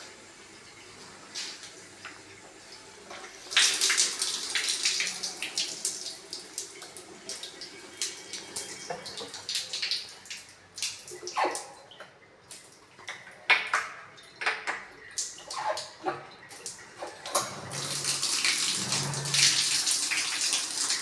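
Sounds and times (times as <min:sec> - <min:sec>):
water running from a tap: 0:00.0 - 0:11.8, 0:14.7 - 0:21.0.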